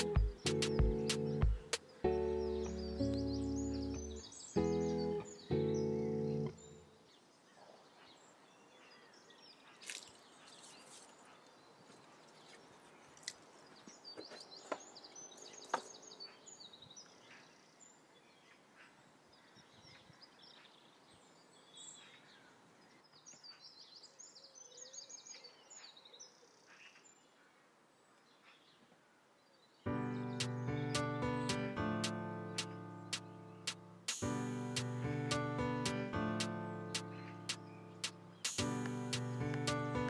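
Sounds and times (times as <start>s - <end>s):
small birds chirping and trilling: 0.0s - 40.0s.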